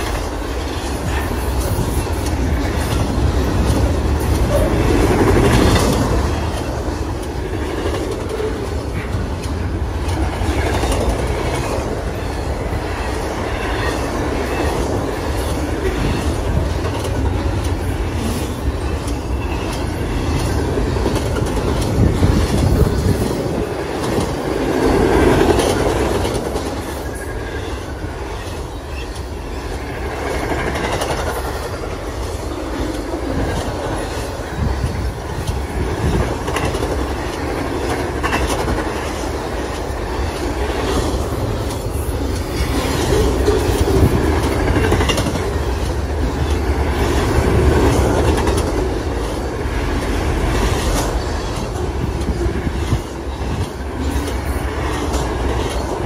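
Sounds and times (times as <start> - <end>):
train wheels rumbling on rails: 0.0 - 56.0
wheels clickety-clack over rail joints: 0.0 - 56.0.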